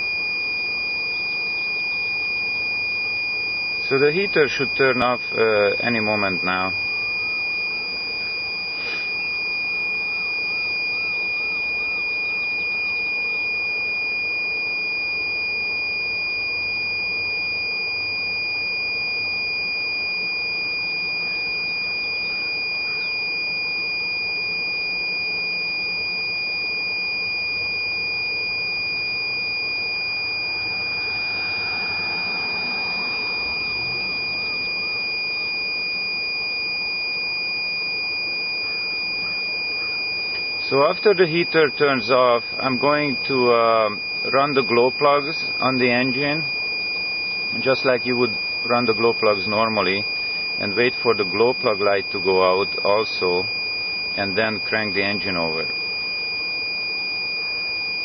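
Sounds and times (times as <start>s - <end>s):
high-pitched electronic buzzer: 0.0s - 58.0s.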